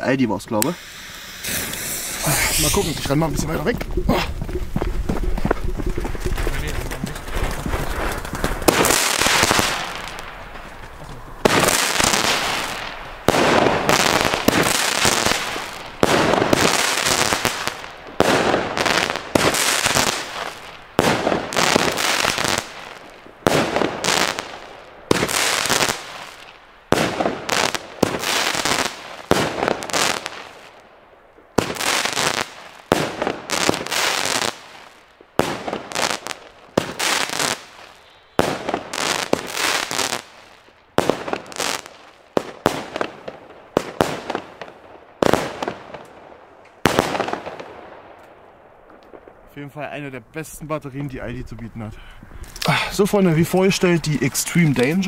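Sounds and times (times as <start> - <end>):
firework bangs: 0.7 - 4.9, 5.6 - 30.8, 31.4 - 49.4.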